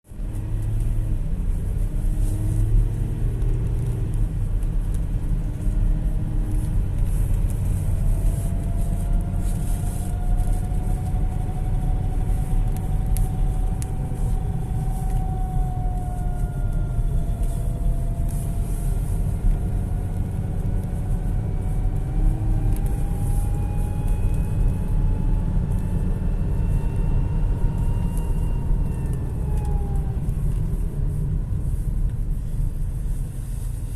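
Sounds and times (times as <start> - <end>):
engine low rumble: 0.0 - 33.9.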